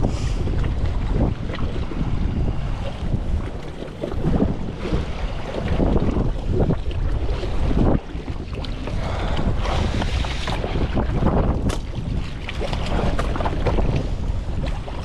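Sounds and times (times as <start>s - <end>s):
sea water splashing: 0.0s - 15.0s
wind buffeting microphone: 0.0s - 15.0s.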